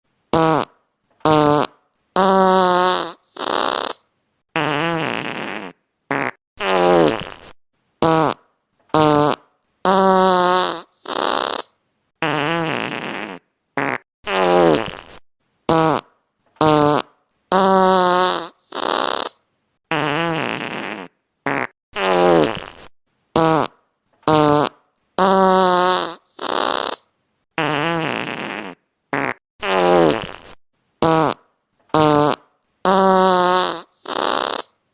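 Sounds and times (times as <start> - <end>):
fart sound effects: 0.3 - 34.8.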